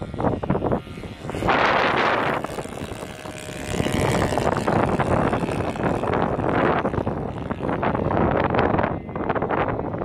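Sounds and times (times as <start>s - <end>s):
model airplane engine: 0.0s - 10.0s
wind buffeting microphone: 0.0s - 10.0s.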